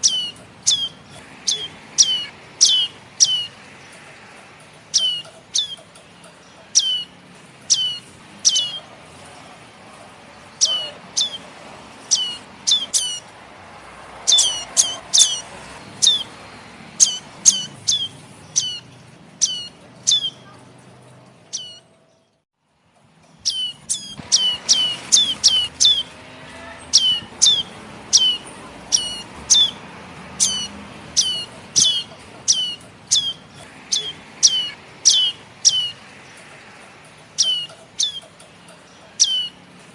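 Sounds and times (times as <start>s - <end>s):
birds chirping: 0.0s - 22.4s, 23.0s - 39.9s.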